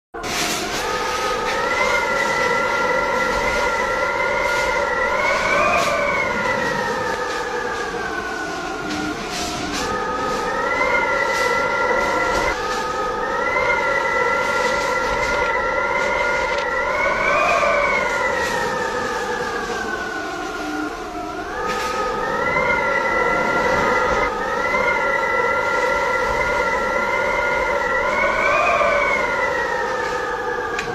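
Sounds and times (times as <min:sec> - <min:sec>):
storm wind howling: 0:00.1 - 0:30.9.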